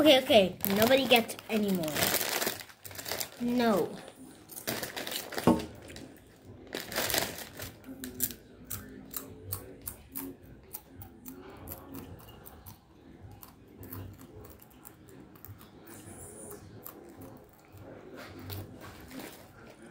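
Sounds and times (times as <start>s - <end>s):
child chewing crunchy snacks: 0.0s - 19.9s.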